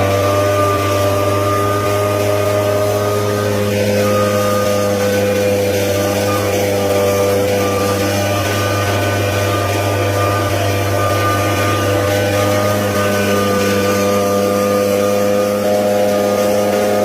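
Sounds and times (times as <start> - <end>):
leaf blower running: 0.0 - 17.0.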